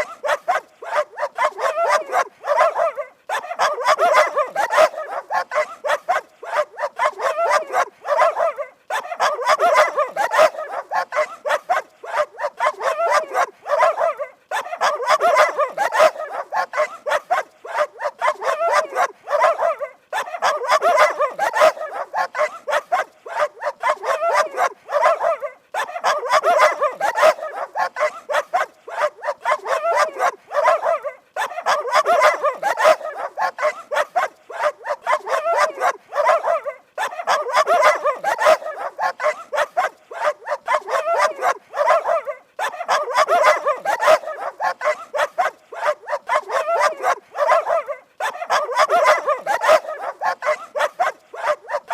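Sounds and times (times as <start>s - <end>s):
dog barking rapidly: 0.0s - 51.9s.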